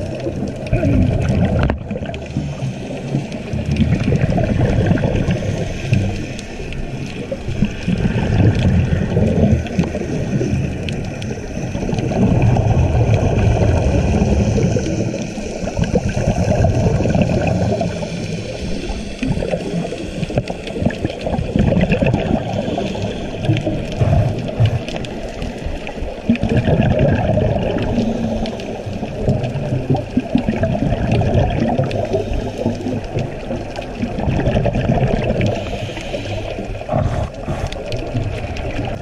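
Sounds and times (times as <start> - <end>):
muffled gurgling underwater water: 0.0 - 39.0.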